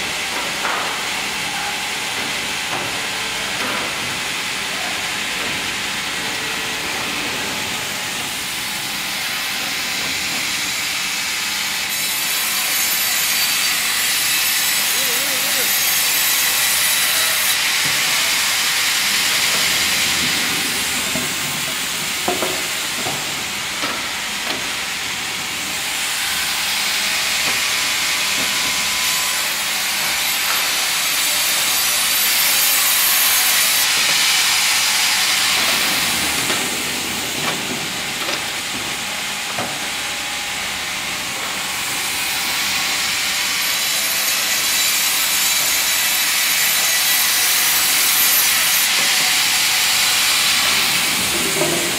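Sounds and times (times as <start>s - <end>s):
band saw cutting log: 7.6s - 51.9s.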